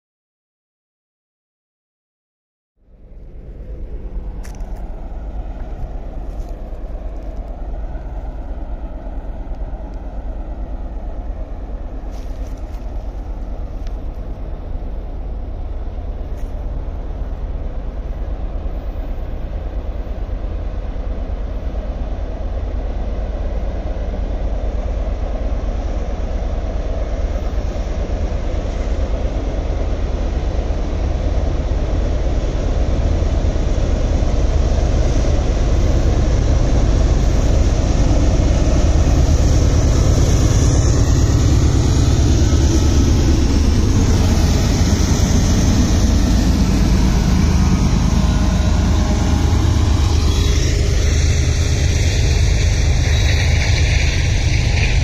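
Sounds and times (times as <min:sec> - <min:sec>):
freight train rumbling past: 0:02.8 - 0:55.0.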